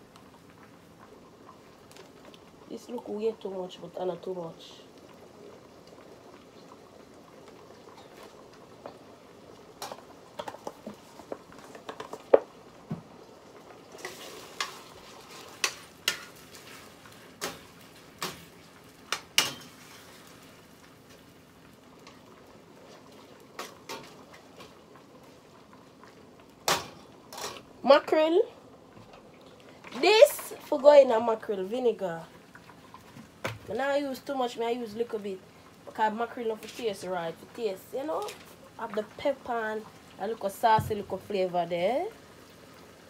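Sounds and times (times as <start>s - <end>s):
food simmering and bubbling: 0.0s - 43.0s.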